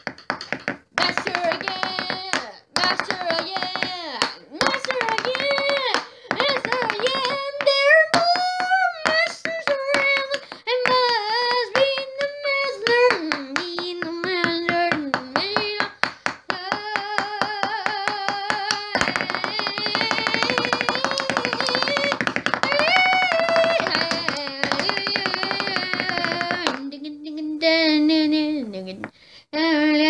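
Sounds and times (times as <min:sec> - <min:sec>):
person singing wordless tune: 0:01.0 - 0:30.0.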